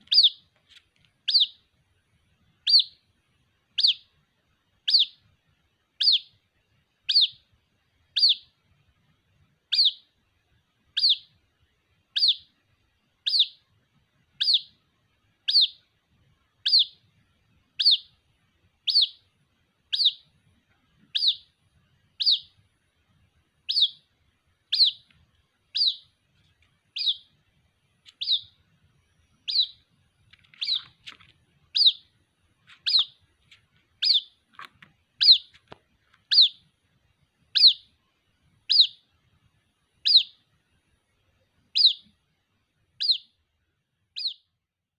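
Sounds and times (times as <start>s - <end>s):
bird chick peeping: 0.0s - 1.8s, 2.5s - 4.2s, 4.8s - 9.0s, 9.6s - 36.8s, 37.5s - 38.0s, 38.6s - 39.2s, 40.0s - 40.5s, 41.6s - 42.2s, 43.0s - 43.4s, 44.1s - 44.6s.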